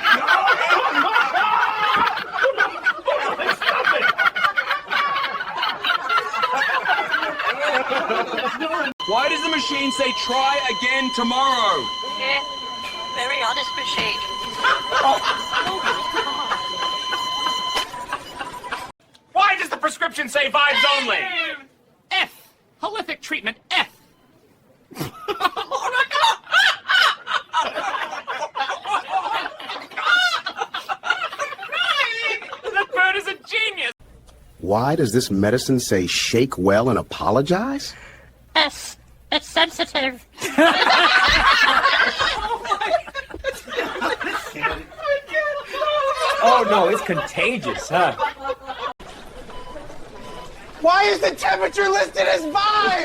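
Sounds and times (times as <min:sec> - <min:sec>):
people laughing: 0:00.0 - 0:20.0, 0:24.9 - 0:33.9, 0:34.6 - 0:53.0.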